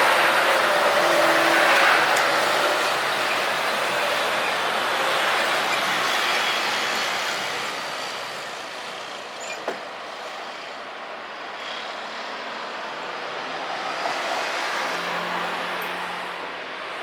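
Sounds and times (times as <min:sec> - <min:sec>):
rushing engine noise: 0:00.0 - 0:17.0.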